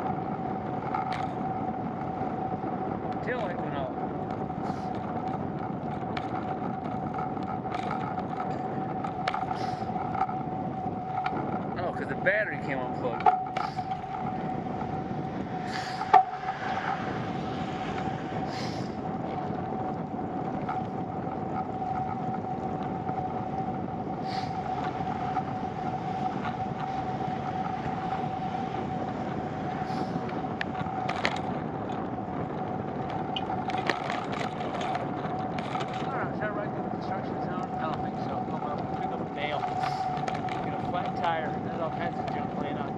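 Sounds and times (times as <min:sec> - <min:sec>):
bicycle riding noise: 0:00.0 - 0:42.9
thin steady whine: 0:00.0 - 0:42.9.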